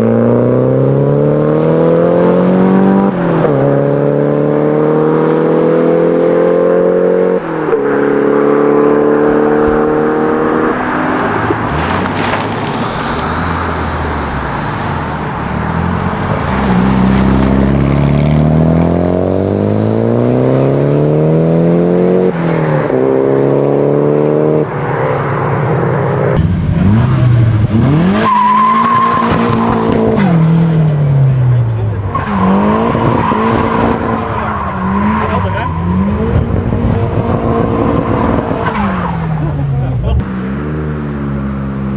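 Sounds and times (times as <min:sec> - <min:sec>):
car engine revving hard: 0:00.0 - 0:14.7, 0:15.5 - 0:41.9.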